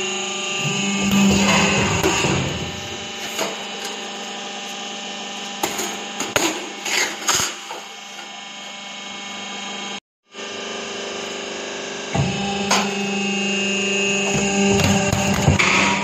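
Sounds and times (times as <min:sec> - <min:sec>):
shearing machine humming: 0:00.0 - 0:16.0.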